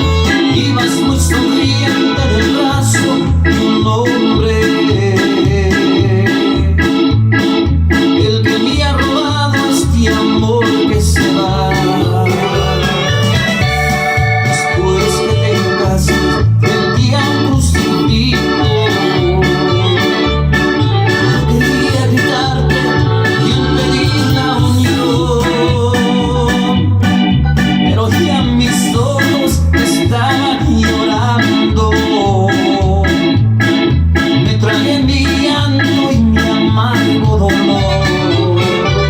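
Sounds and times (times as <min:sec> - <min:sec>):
electronic organ music: 0:00.0 - 0:39.0
steady bass beat: 0:00.0 - 0:39.0.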